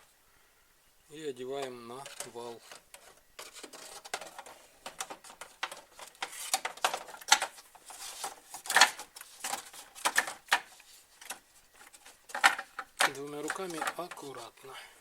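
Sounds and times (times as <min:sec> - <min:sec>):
fan impeller knocking and scraping: 0:01.6 - 0:14.5.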